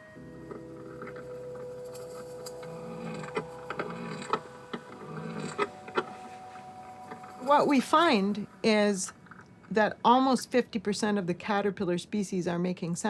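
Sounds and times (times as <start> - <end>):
steady hum: 0.0 - 11.4.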